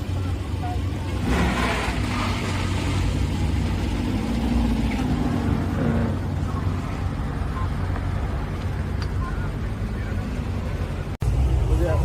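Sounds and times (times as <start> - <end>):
car engines humming: 0.0 - 12.0.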